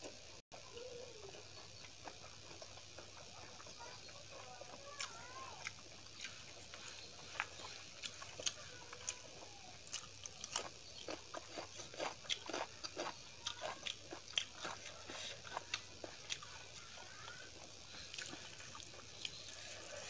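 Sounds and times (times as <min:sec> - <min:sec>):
wet chewing and mouth smacking: 0:00.8 - 0:20.0.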